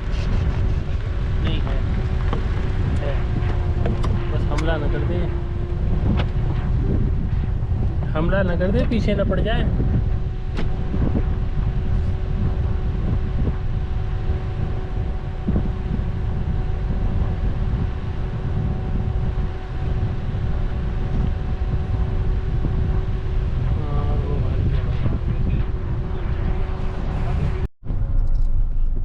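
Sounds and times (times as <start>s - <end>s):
car engine and tyres rumbling: 0.0s - 29.0s
faint steady hum: 0.0s - 29.0s
wind noise on microphone: 0.0s - 29.0s.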